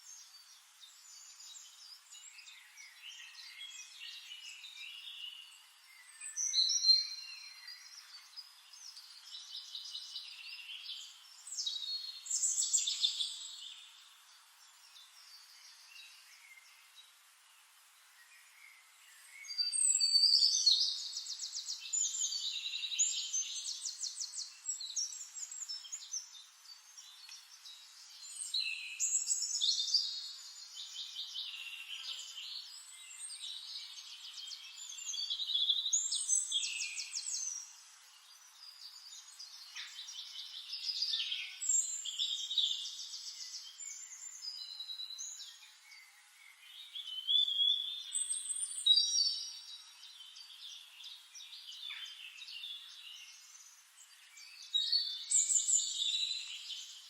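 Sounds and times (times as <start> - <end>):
songbird trilling song: 0.0 - 17.1, 18.1 - 57.0
soft bird chirping: 0.0 - 57.0.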